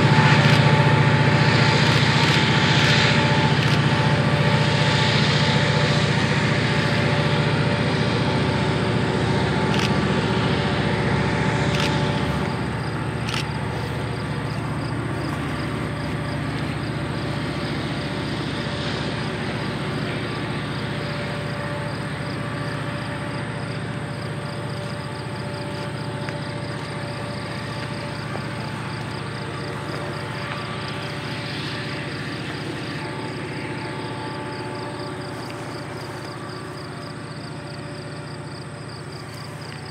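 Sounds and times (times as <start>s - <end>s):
locomotive engine drone: 0.0s - 39.9s.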